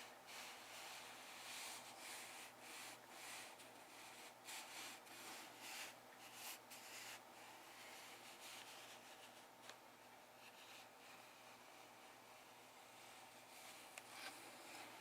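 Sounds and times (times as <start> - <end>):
soft rubbing strokes: 0.0 - 15.0.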